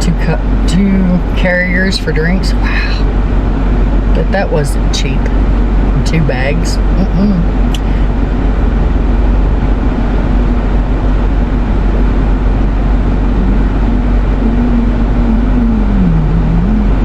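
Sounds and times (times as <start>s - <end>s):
car cabin rumble: 0.0s - 17.0s
low engine hum: 0.0s - 17.0s.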